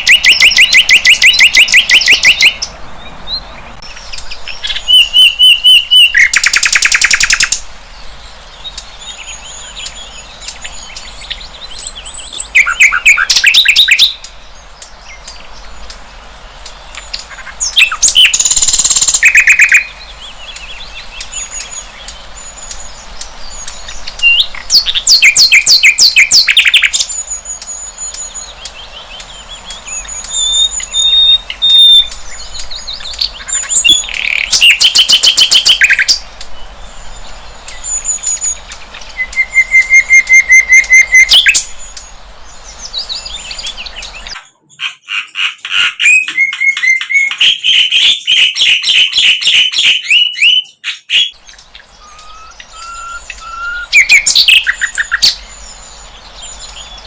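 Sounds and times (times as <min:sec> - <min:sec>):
flycatcher singing: 0:00.0 - 0:57.0.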